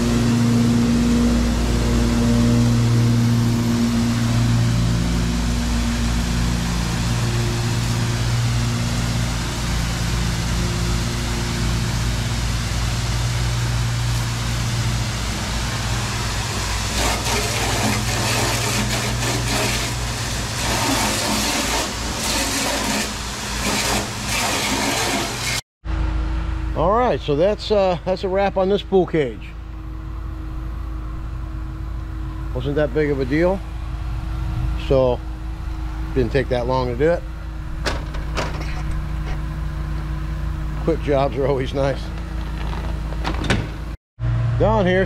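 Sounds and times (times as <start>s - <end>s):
pressure washer engine running: 0.0s - 25.6s, 26.7s - 45.0s.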